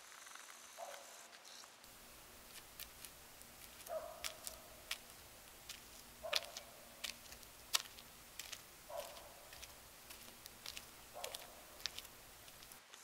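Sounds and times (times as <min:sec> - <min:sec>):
flip-flop footsteps on pavement: 0:01.9 - 0:12.8.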